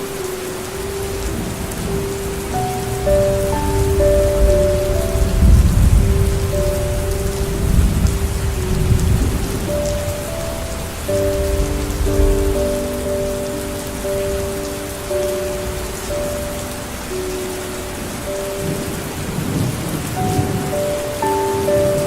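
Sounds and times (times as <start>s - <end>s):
soft music of held notes: 0.0s - 22.0s
steady rain falling: 0.0s - 22.0s
thunder rumbling: 1.2s - 16.5s, 17.9s - 22.0s.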